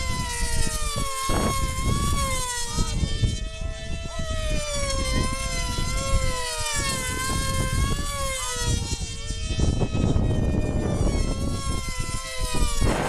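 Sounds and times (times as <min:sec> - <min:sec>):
model plane engines screaming: 0:00.0 - 0:13.0.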